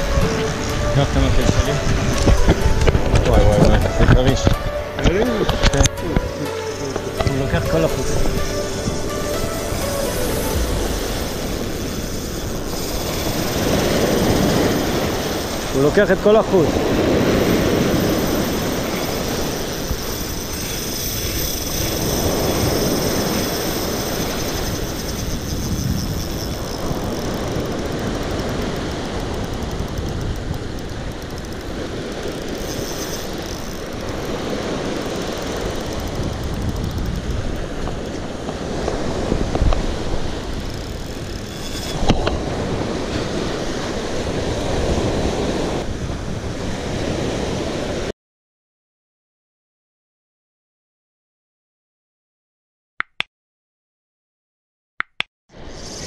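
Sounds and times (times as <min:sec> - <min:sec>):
surf washing over rocks: 0:00.0 - 0:48.1
wind buffeting microphone: 0:00.0 - 0:48.1.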